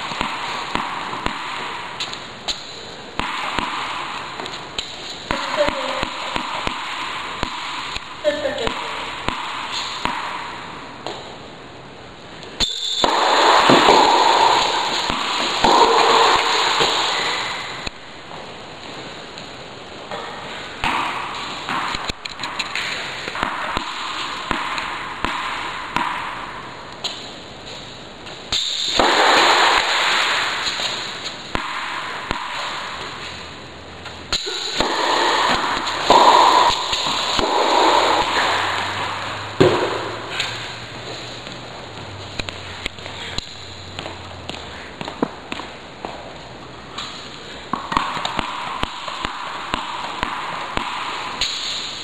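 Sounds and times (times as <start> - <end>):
tennis balls struck with racket: 0.0 - 11.4, 12.5 - 18.5, 20.1 - 27.3, 28.3 - 52.0.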